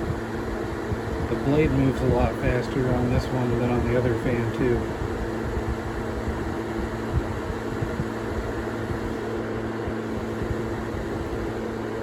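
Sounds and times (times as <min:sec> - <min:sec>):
table fan running: 0:00.0 - 0:12.0.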